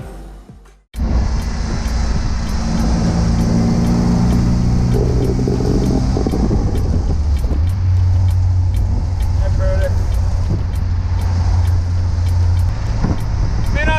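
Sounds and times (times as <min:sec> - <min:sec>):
car engine running: 0:01.0 - 0:13.9
wind and road noise: 0:01.0 - 0:13.9.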